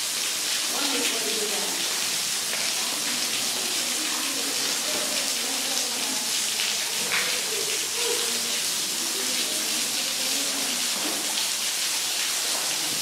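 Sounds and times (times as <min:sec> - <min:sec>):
waterfall splashing onto rocks: 0:00.0 - 0:13.0.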